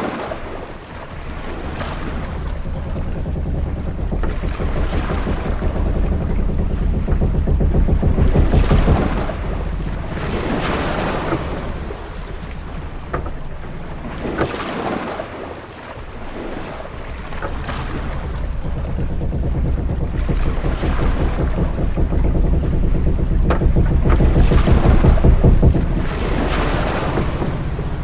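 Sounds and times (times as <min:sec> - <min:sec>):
low rumble of wind and sea: 0:00.0 - 0:28.0
waves washing against hull: 0:00.0 - 0:28.0
small knocks: 0:01.0 - 0:28.0.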